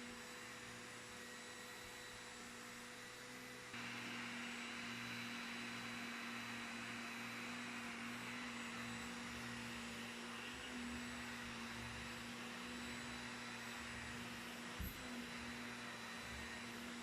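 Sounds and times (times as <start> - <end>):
vacuum cleaner motor running: 0.0 - 17.0.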